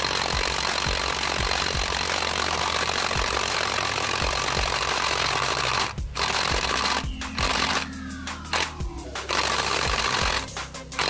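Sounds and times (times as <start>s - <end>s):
impact wrench hammering: 0.0s - 11.0s.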